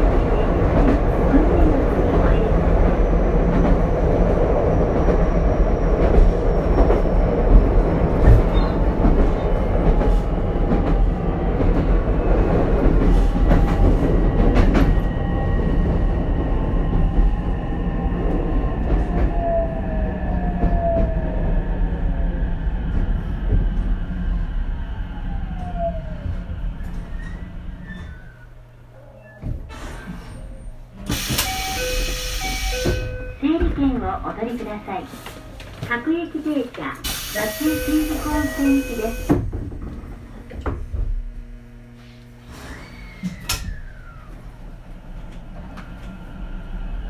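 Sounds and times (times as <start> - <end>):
train wheel and rail rumble: 0.0 - 47.0.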